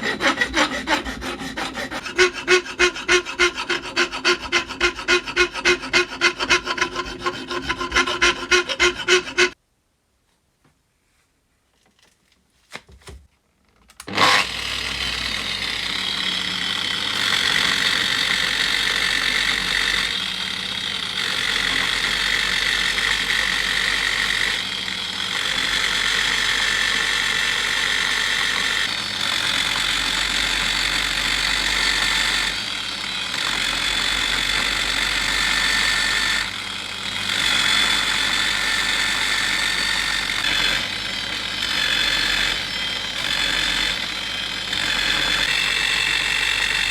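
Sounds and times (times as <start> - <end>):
power tool whirring: 0.0 - 9.6, 14.0 - 46.9.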